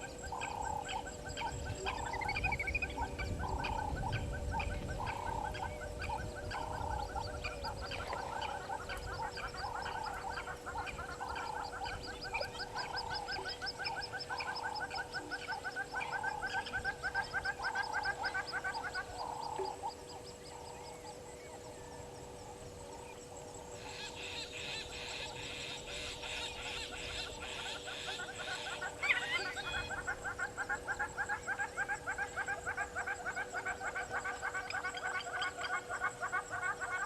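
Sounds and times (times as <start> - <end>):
repeated animal call: 0.0 - 21.1, 23.8 - 37.0.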